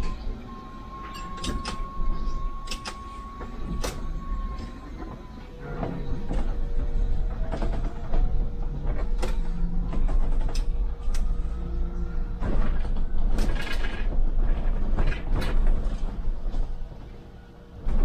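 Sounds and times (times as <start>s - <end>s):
bus interior rumble: 0.0s - 18.0s.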